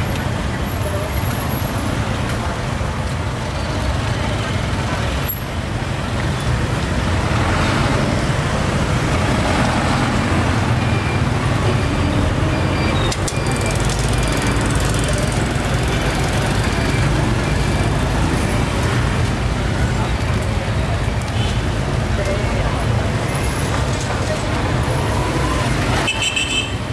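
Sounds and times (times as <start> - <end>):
motorbikes and vehicles passing: 0.0 - 26.9.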